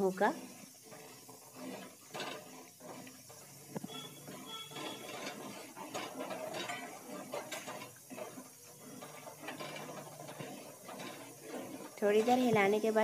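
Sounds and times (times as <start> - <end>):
spoon scraping metal pot: 0.0 - 13.0.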